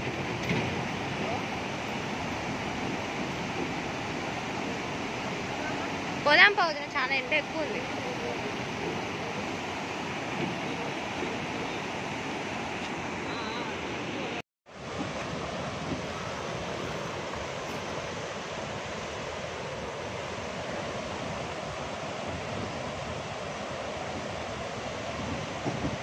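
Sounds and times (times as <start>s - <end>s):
river rapids rushing: 0.0s - 26.0s.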